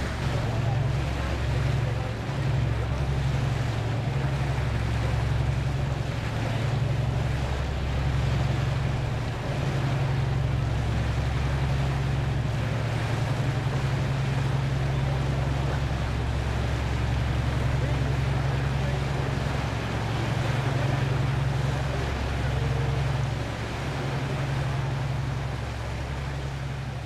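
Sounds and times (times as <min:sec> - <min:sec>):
boat engine drone: 0:00.0 - 0:27.0
wind and water hiss: 0:00.0 - 0:27.0.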